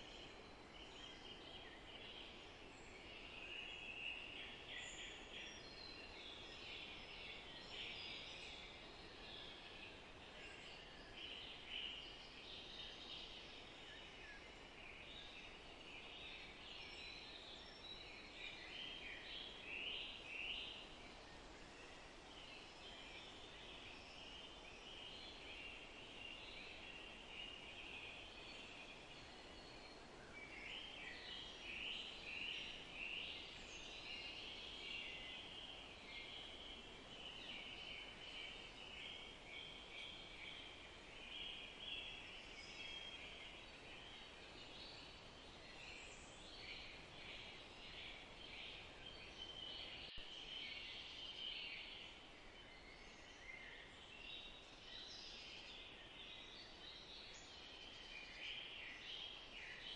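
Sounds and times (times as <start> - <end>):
birds chirping and twittering: 0.0 - 59.9
soft steady hiss: 0.0 - 59.9.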